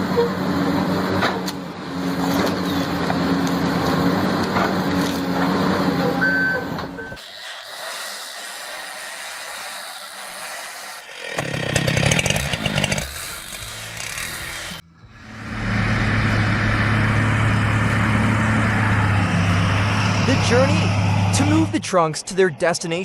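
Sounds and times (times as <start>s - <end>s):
deep engine drone: 0.0s - 7.2s, 11.4s - 23.0s
engine-driven machinery running: 0.0s - 7.9s, 11.1s - 23.0s.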